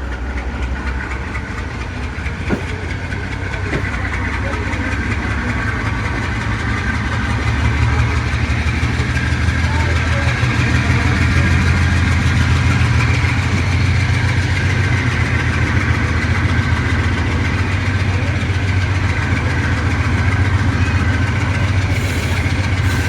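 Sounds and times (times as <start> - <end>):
locomotive engine running: 0.0 - 23.0.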